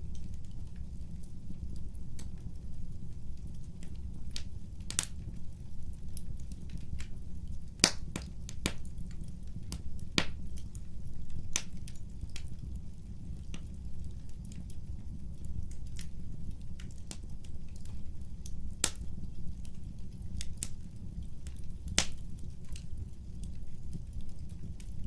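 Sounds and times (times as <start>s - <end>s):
burning logs crackling and popping: 0.0s - 25.0s
fire flames rumbling: 0.0s - 25.0s.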